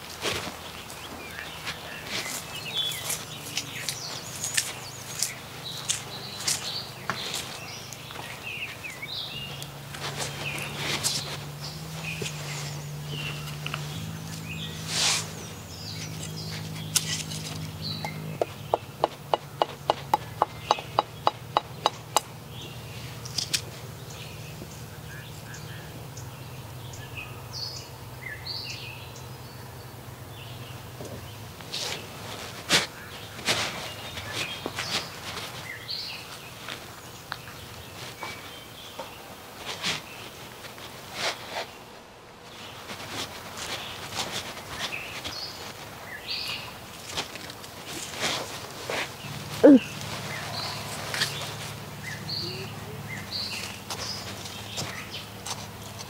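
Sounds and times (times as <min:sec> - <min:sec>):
footsteps on dry ground: 0:00.0 - 0:25.7, 0:31.6 - 0:41.8, 0:42.6 - 0:56.0
birds chirping: 0:00.0 - 0:56.0.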